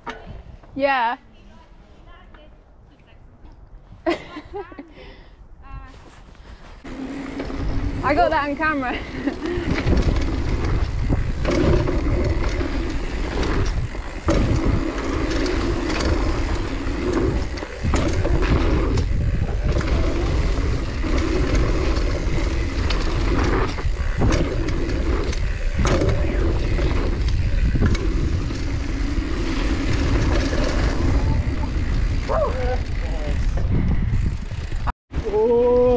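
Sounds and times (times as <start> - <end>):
wind noise: 0.0 - 35.9
bike tyre noise on dirt: 5.7 - 35.9.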